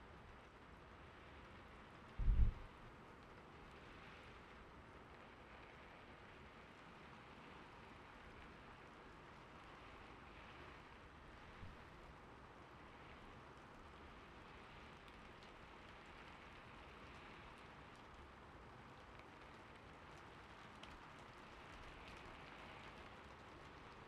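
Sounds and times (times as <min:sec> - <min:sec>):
faint rain falling: 0:00.0 - 0:24.0.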